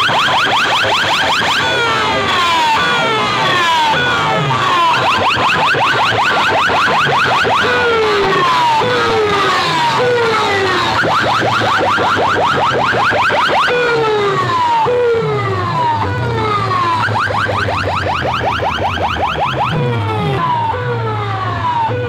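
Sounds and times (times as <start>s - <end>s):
slow falling siren wails: 0.0s - 22.0s.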